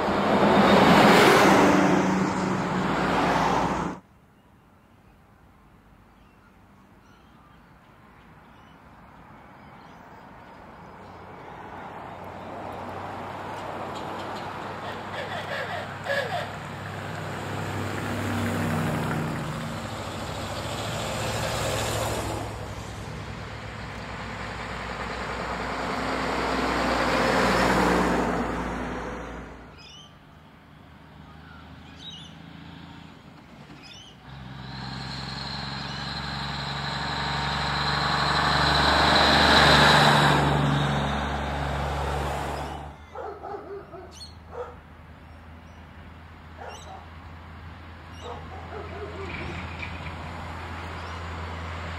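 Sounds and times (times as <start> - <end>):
vehicles passing on road: 0.0 - 51.9.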